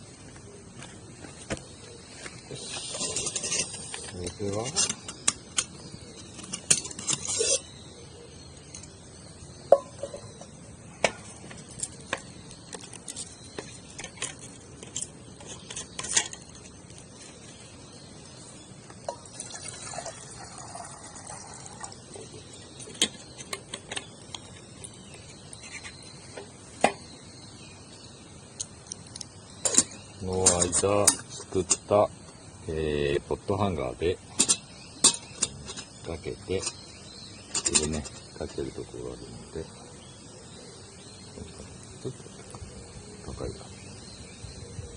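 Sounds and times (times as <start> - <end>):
low fire hiss: 0.0 - 44.9.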